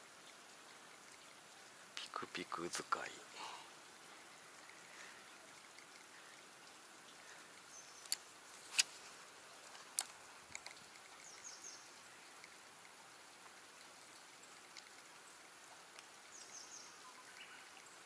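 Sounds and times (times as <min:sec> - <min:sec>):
outdoor ambience hiss: 0:00.0 - 0:18.0.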